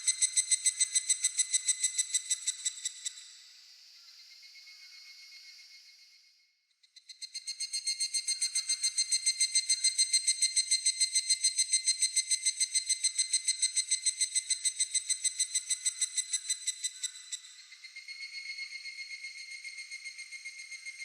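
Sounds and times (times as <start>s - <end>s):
cicada pulsed trill: 0.0s - 6.0s, 6.9s - 21.0s.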